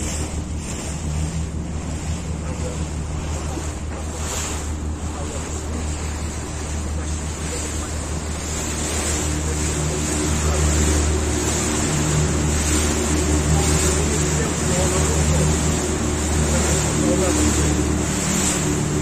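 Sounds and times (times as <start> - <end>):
motorboat engine humming: 0.0 - 19.0
water rushing past hull: 0.0 - 19.0
wind buffeting microphone: 0.0 - 19.0.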